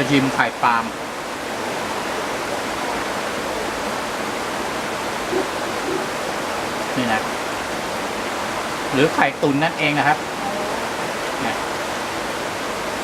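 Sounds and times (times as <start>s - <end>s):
waterfall rushing: 1.1s - 13.0s.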